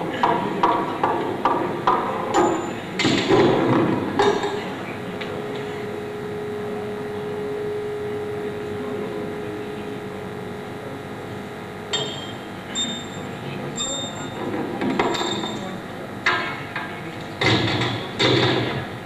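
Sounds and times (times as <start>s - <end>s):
steady hum over speakers: 0.0s - 19.0s.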